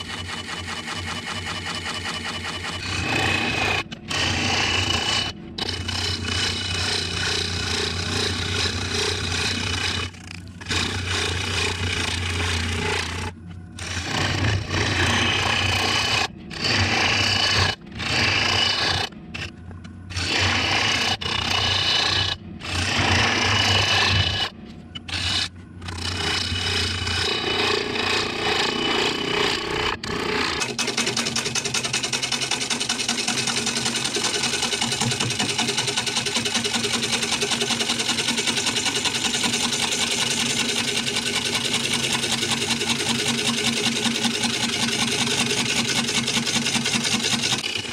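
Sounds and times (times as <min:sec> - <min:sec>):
gouge cutting wood on a lathe: 0:00.0 - 0:19.5, 0:20.1 - 0:24.5, 0:25.1 - 0:47.9.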